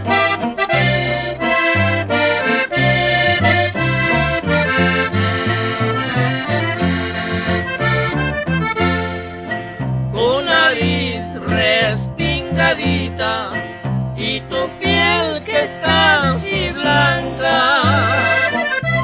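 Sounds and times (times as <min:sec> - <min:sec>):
pulsing bass line: 0:00.0 - 0:10.2, 0:11.9 - 0:19.0
accordion melody: 0:00.0 - 0:19.0.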